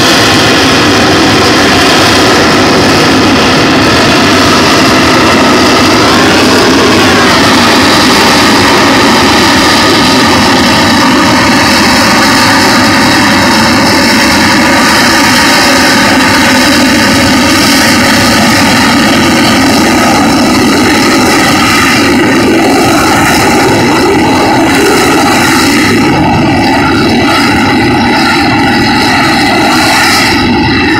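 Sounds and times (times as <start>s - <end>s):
jet engine roaring and whining: 0.0s - 30.9s.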